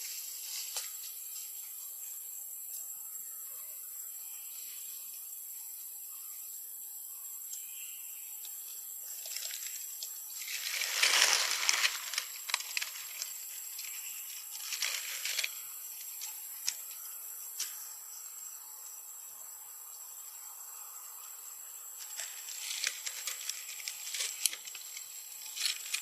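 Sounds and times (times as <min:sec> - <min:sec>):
high-pitched insect drone: 0:00.0 - 0:26.0.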